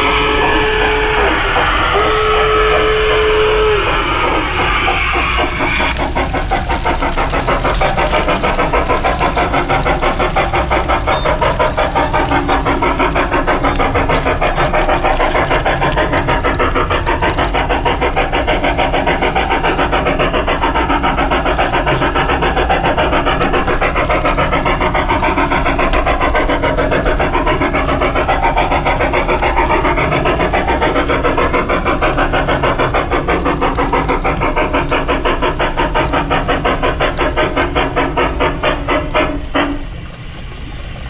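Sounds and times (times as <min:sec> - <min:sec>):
model steam locomotive running: 0:00.0 - 0:41.0.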